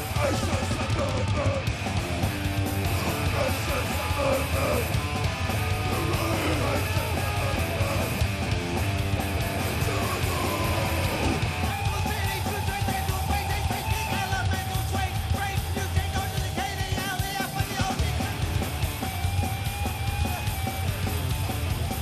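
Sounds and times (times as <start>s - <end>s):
band playing punk metal: 0.0s - 22.0s
yelled vocals: 0.0s - 22.0s.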